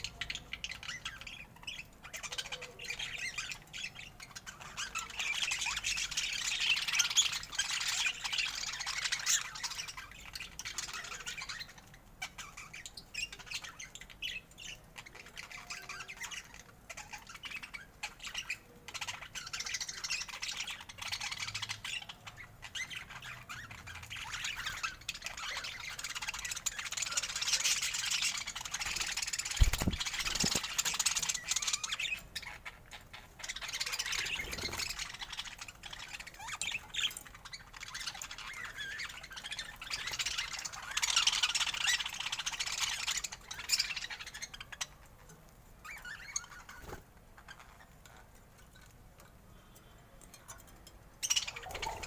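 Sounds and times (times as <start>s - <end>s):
budgerigars chattering and squawking: 0.0s - 45.2s, 51.2s - 52.0s.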